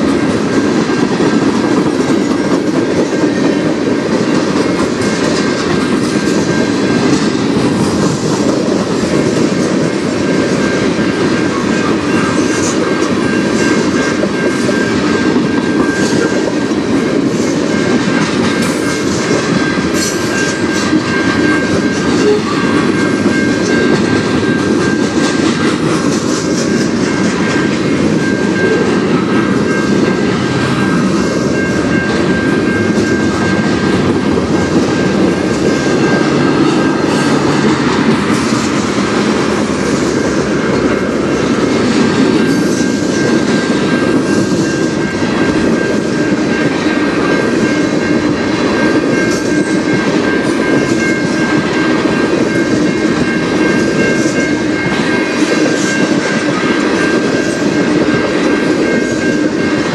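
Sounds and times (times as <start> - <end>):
crossing warning bell: 0.0 - 59.9
freight train wheels rumbling: 0.0 - 59.9.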